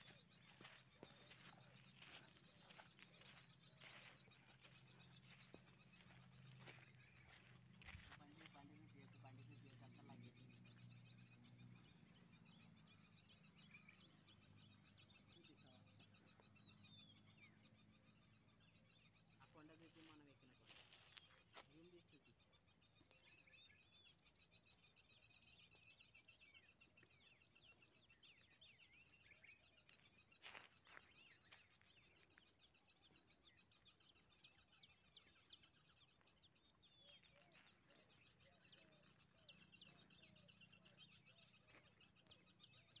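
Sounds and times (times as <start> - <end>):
faint birds chirping: 0.0 - 43.0.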